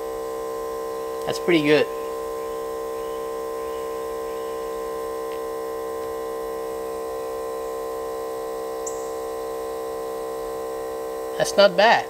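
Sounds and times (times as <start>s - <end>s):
pump humming: 0.0s - 12.0s.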